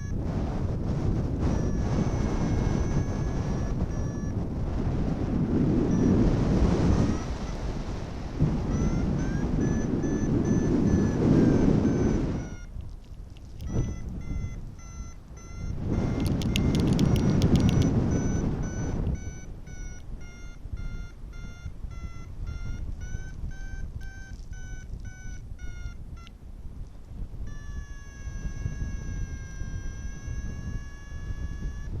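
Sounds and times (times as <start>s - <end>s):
variometer beeping: 0.0s - 26.4s, 27.4s - 32.0s
wind buffeting microphone: 0.0s - 32.0s.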